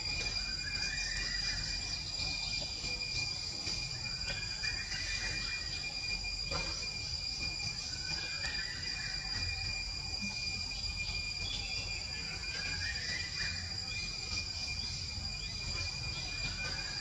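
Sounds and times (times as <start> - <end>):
faint chirps: 0.0 - 17.0
insects buzzing high-pitched: 0.0 - 17.0.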